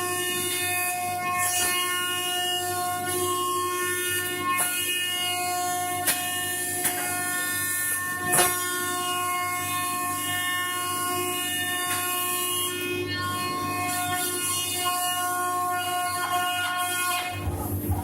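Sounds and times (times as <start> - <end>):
cnc router spindle whine: 0.0 - 18.0.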